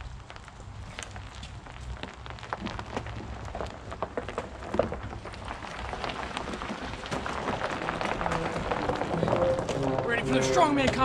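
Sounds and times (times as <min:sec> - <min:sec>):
low steady rumble: 0:00.0 - 0:11.0
footsteps crunching on gravel: 0:00.8 - 0:11.0.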